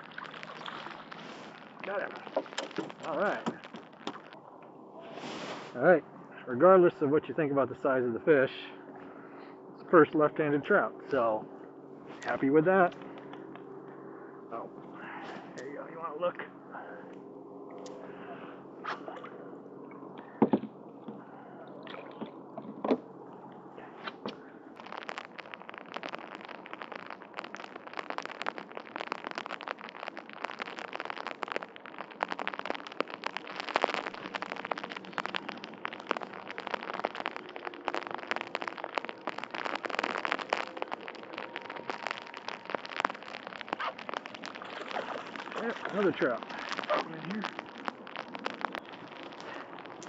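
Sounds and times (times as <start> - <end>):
rain on water and boat: 0.0 - 7.0, 8.8 - 18.5, 19.6 - 50.0
low hum: 0.0 - 50.0.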